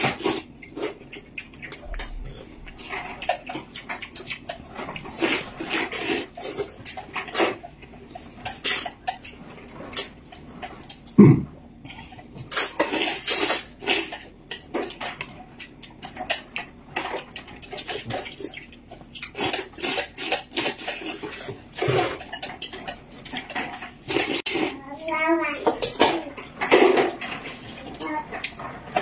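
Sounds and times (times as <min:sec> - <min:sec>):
noodles being slurped: 0:00.0 - 0:10.9, 0:12.2 - 0:14.4, 0:15.5 - 0:29.0.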